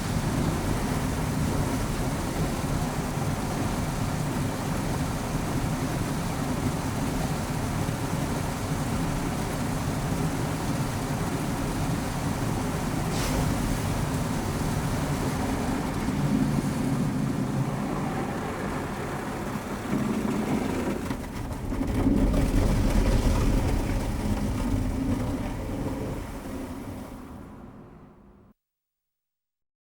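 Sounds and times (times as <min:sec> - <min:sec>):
car wash rumbling on bodywork: 0:00.0 - 0:28.3.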